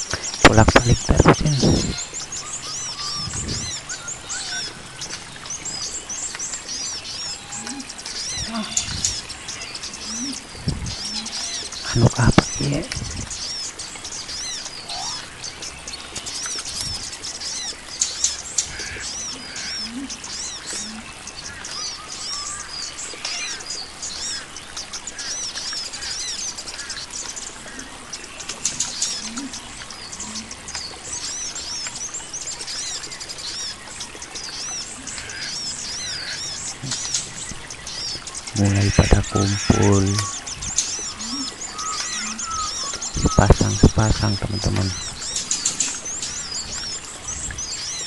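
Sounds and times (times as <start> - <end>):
birds chirping: 0.0 - 48.0
wings fluttering and splashing: 0.0 - 48.0.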